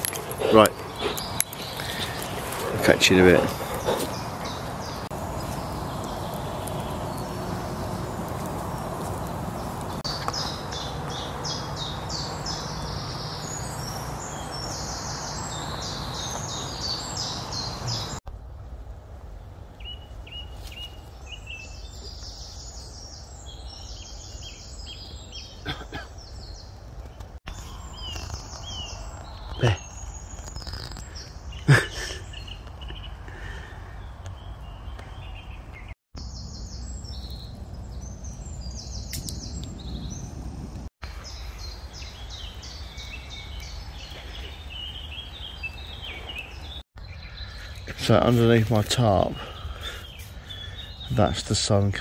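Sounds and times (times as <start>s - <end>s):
songbirds singing: 0.0s - 18.2s, 19.4s - 52.0s.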